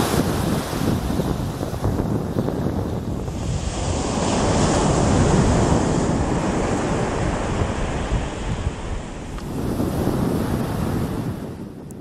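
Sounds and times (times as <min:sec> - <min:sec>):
surf washing onto beach: 0:00.0 - 0:11.8
wind buffeting microphone: 0:00.0 - 0:12.0.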